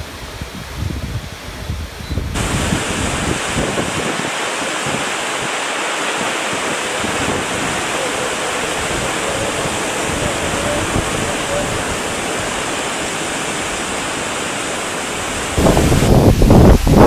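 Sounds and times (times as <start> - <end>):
waterfall rushing: 2.3 - 17.0.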